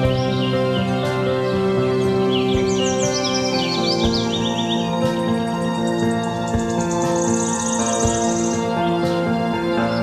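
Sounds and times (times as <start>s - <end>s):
birds chirping: 0.0s - 10.0s
calm background music: 0.0s - 10.0s.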